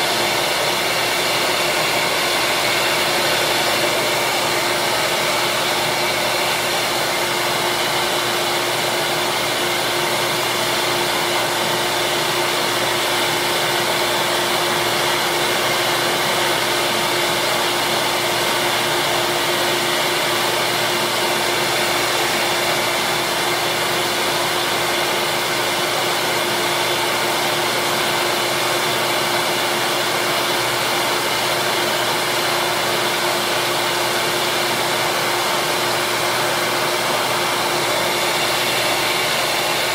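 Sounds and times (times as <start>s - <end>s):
bench sander motor humming: 0.0s - 39.9s.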